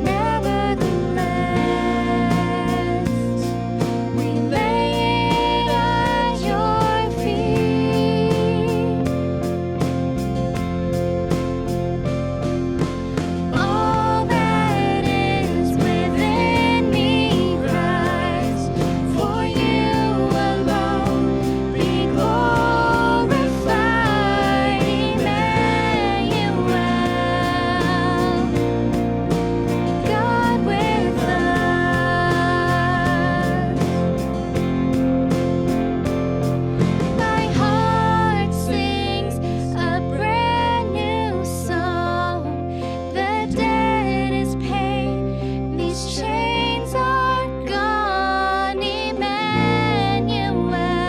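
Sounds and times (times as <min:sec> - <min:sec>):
acoustic guitar: 0:00.0 - 0:51.0
band playing worship song: 0:00.0 - 0:51.0
slow held melody: 0:00.0 - 0:51.0
sustained bass notes: 0:00.0 - 0:51.0.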